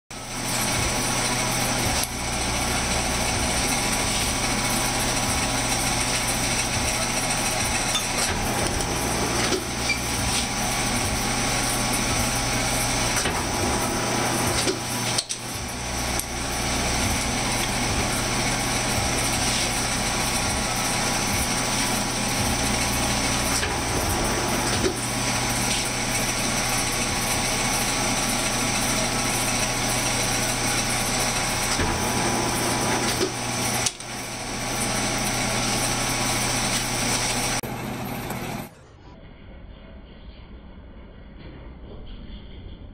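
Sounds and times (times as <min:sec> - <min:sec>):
constant motor hum: 0:00.1 - 0:39.0
metal shaper ram stroking: 0:01.6 - 0:37.5.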